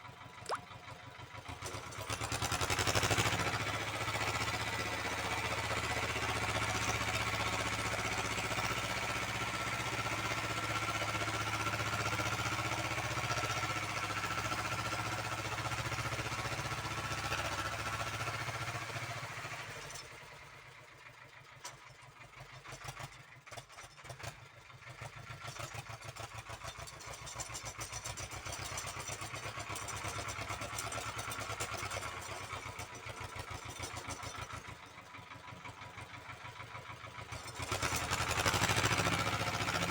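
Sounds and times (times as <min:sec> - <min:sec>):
tractor engine running: 0:00.0 - 0:20.3, 0:25.3 - 0:39.9.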